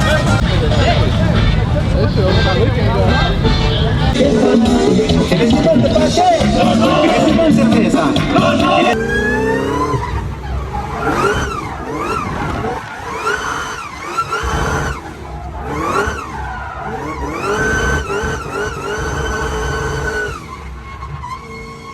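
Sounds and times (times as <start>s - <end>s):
car engine revving hard: 0.0s - 21.9s.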